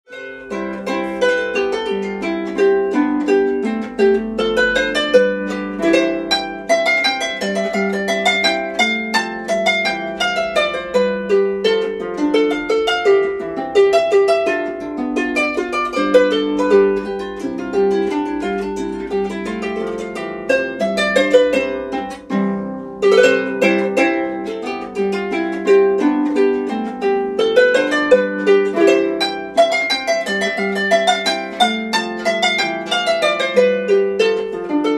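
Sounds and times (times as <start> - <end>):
harp playing: 0.0 - 34.9.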